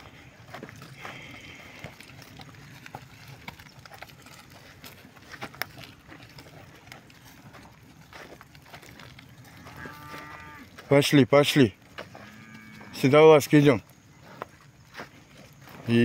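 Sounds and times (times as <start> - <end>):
cattle hoof steps in wet pasture: 0.0 - 16.0.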